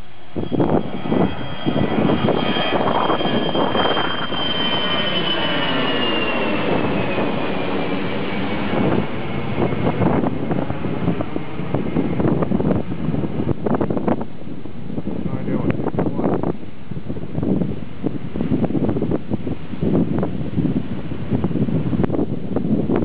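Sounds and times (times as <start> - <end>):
high jet engine whine: 0.0 - 23.0
jet engines roaring overhead: 0.0 - 23.0.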